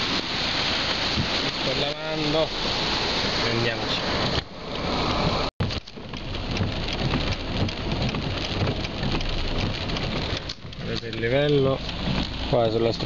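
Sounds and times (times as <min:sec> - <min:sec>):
heavy rain on car windshield: 0:00.0 - 0:13.0
rushing floodwater: 0:00.0 - 0:13.0.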